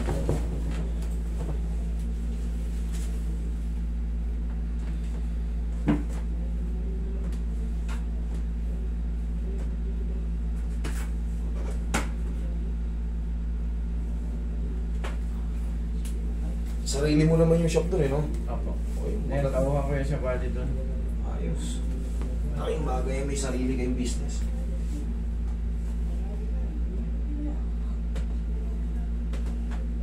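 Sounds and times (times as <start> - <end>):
air conditioner humming: 0.0 - 30.0.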